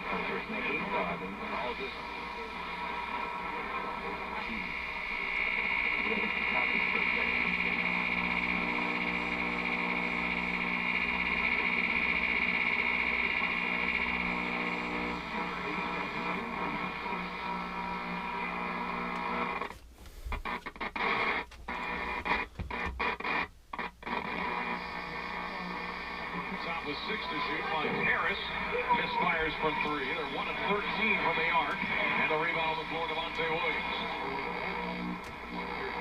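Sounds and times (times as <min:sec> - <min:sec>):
radio interference tones: 0:00.0 - 0:36.0
radio static: 0:00.0 - 0:36.0.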